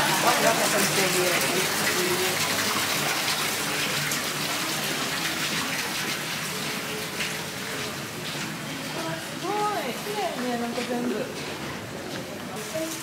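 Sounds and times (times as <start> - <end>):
running water splashing: 0.0 - 13.0.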